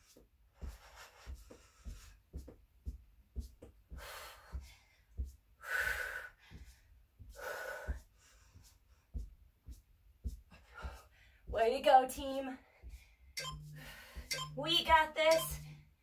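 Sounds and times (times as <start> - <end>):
feet thudding on exercise mat: 0.0 - 13.1.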